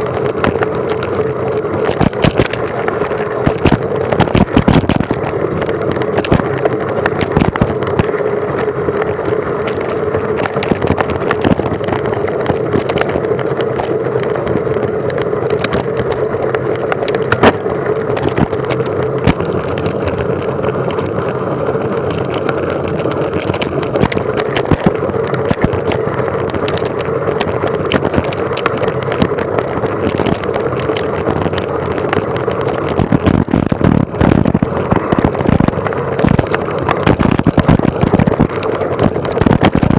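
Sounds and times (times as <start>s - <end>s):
rumbling ride noise: 0.0s - 39.9s
sharp clicks and rattling knocks: 0.0s - 39.9s.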